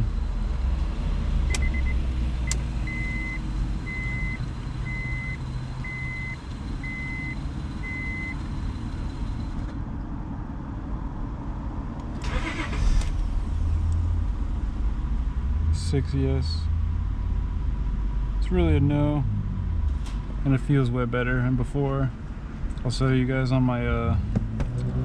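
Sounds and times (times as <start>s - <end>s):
car engine humming: 0.0s - 25.0s.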